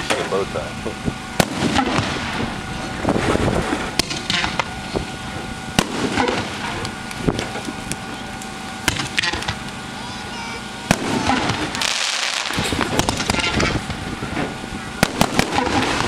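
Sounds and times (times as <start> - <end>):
fireworks crackling: 0.0 - 16.0
fireworks shells bursting: 1.4 - 10.0, 10.6 - 16.0.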